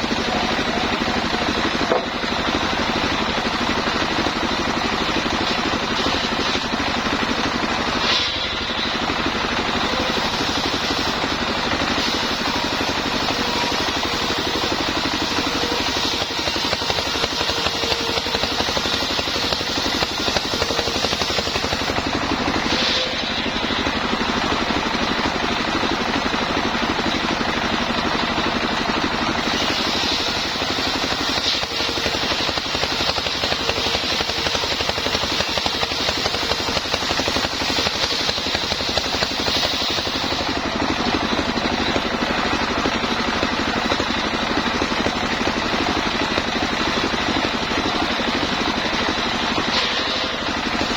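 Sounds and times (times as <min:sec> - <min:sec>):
sawmill engine and saw droning: 0:00.0 - 0:50.9.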